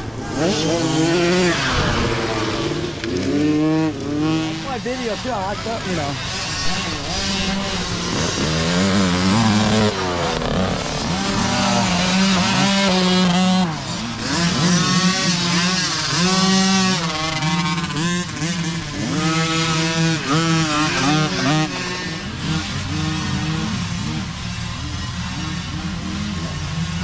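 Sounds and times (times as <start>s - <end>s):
mini dirt bikes revving: 0.0s - 27.0s.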